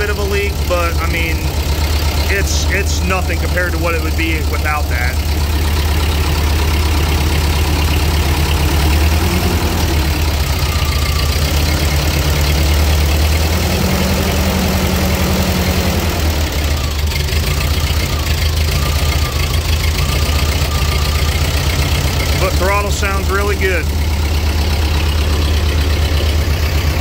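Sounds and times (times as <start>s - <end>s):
tractor engine revving and idling: 0.0s - 27.0s.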